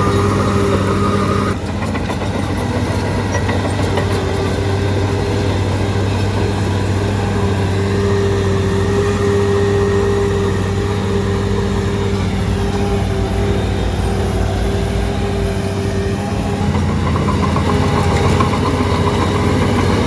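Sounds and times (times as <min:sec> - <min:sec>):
bulldozer diesel engine drone: 0:00.0 - 0:20.0.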